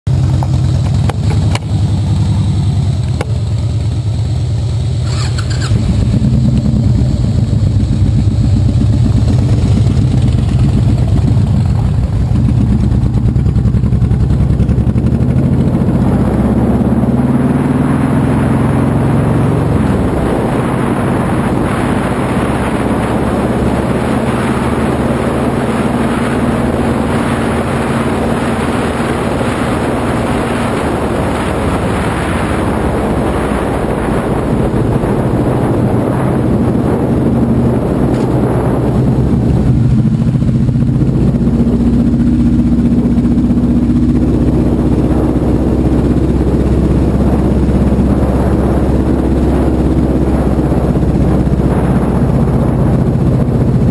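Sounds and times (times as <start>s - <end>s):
motorcycle engine accelerating: 0.0s - 53.9s
wind rushing over microphone: 5.2s - 53.9s.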